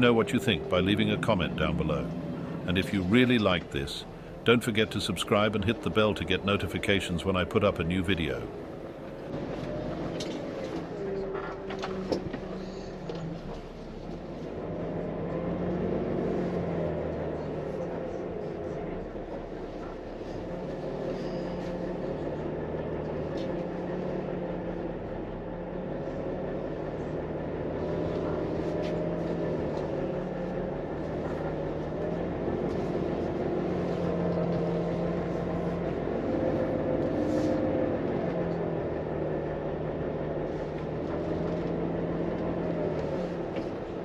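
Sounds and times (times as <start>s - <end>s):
truck diesel engine humming: 0.0s - 44.0s.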